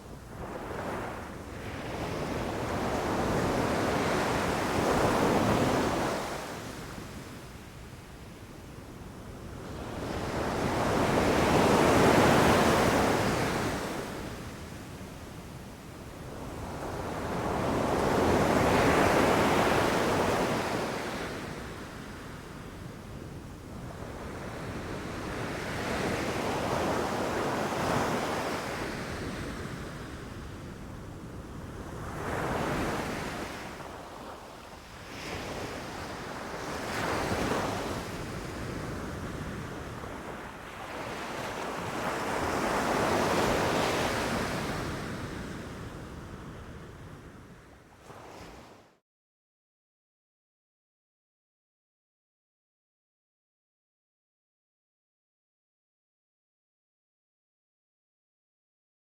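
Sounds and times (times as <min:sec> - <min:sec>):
wind: 0:00.0 - 0:49.0.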